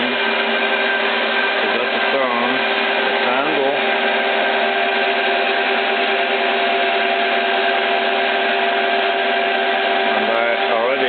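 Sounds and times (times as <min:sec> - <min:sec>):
milling machine cutting steel: 0:00.0 - 0:11.0.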